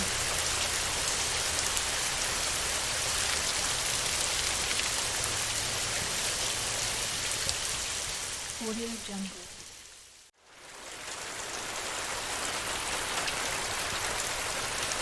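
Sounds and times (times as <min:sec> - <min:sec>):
heavy rain on a tin roof: 0:00.0 - 0:15.0.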